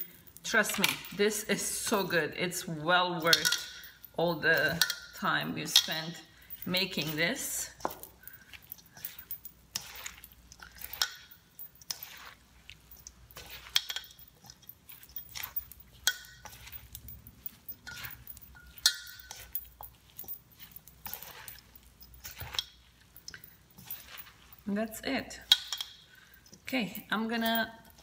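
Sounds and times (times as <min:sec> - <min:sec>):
salad squishing in a bowl: 0:00.0 - 0:28.0
spoon clinking on steel bowl: 0:00.6 - 0:24.6, 0:25.3 - 0:28.0.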